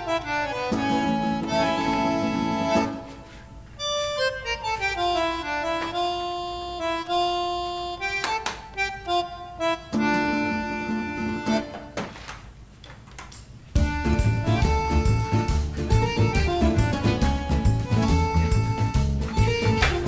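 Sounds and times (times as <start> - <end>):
background music melody: 0.0 - 12.0, 13.4 - 20.0.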